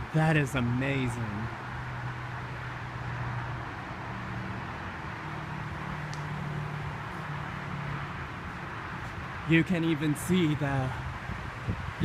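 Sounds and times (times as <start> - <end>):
outdoor noise: 0.0 - 12.0
vehicle engine humming: 0.0 - 12.0.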